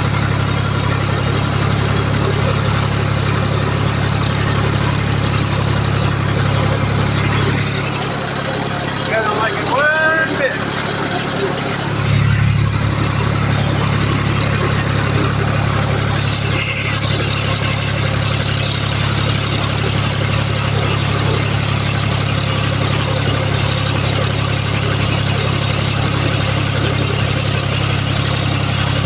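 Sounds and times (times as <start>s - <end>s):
tractor engine at raised throttle: 0.0s - 29.0s.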